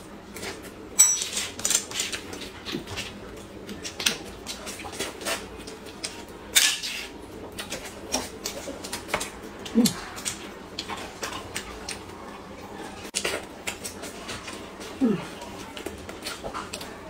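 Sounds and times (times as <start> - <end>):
people chewing and lip-smacking: 0.3 - 17.0.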